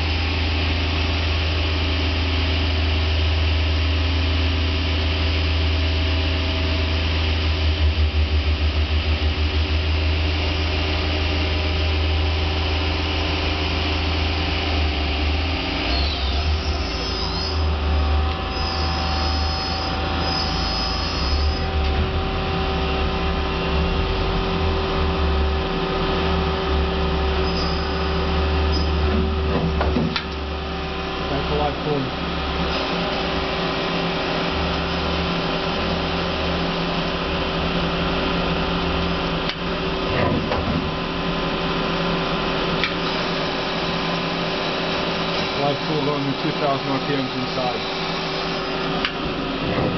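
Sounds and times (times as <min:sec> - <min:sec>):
lathe machine humming: 0:00.0 - 0:49.9.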